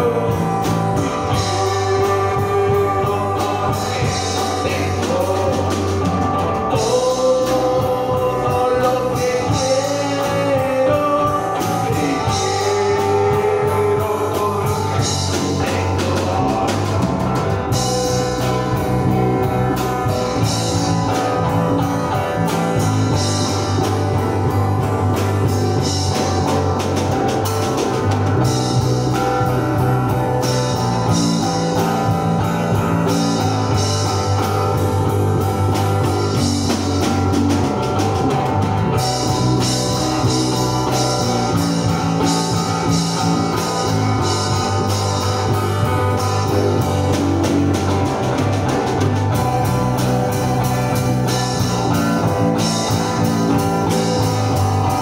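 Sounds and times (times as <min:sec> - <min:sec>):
acoustic guitar: 0:00.0 - 0:55.0
drum kit beat: 0:00.0 - 0:55.0
electric bass guitar: 0:00.0 - 0:55.0.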